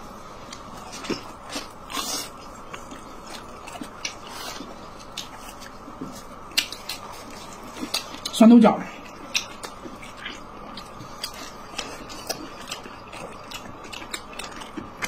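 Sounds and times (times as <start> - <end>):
biting and chewing dumpling: 0.4 - 15.0.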